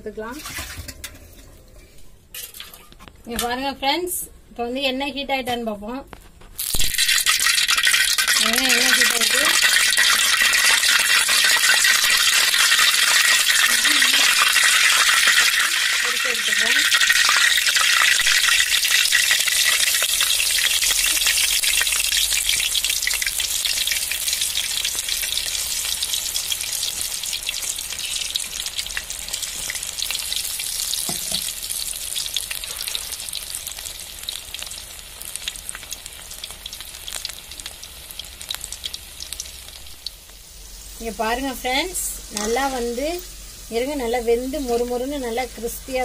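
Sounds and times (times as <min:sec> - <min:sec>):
food sizzling in deep-frying oil: 0:06.6 - 0:46.0.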